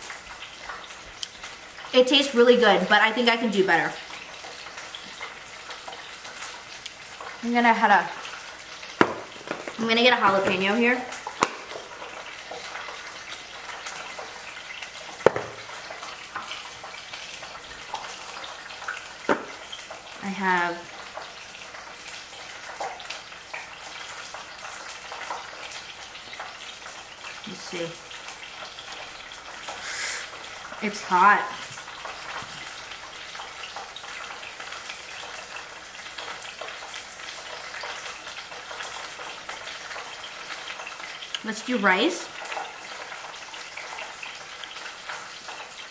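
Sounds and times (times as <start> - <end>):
hot oil sizzling in a pan: 0.0 - 45.9.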